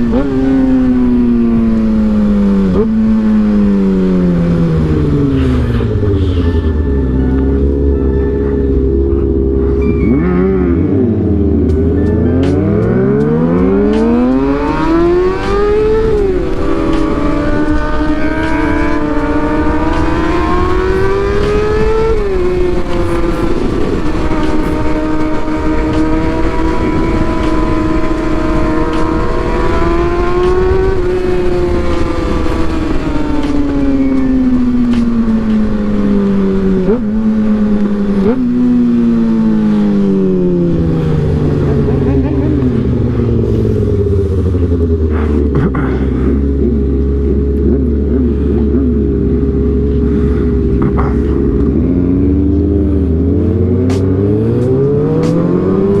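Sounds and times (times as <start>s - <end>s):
wind rush: 0.0s - 47.2s
motorcycle engine shifting gears: 0.0s - 56.0s.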